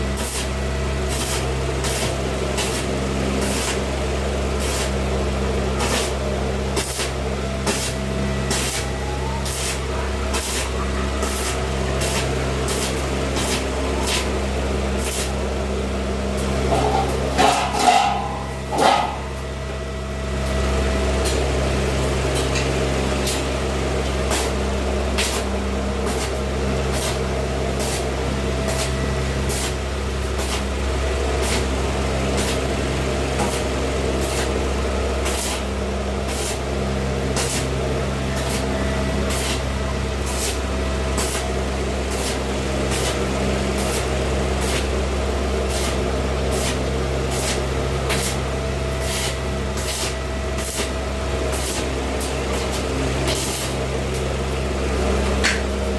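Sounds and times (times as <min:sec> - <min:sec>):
welding arc hissing and crackling: 0:00.0 - 0:19.4, 0:23.2 - 0:55.9
welding machine hum: 0:00.0 - 0:55.9.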